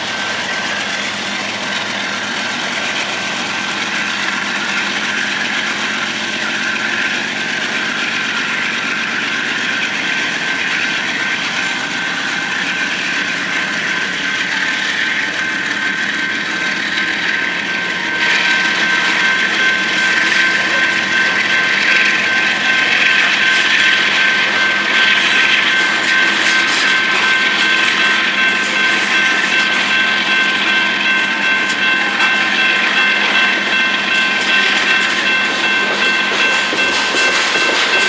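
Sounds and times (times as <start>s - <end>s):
diesel locomotive engines: 0.0s - 38.0s.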